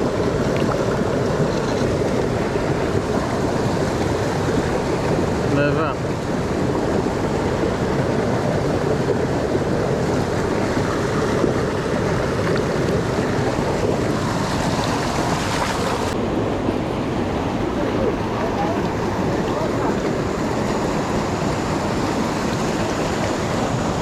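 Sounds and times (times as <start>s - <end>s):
river flowing over rocks: 0.0s - 24.0s.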